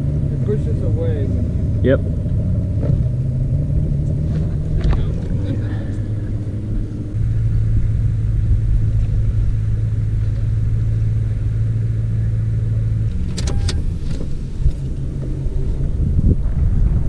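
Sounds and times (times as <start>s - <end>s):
truck engine idling: 0.0s - 16.6s.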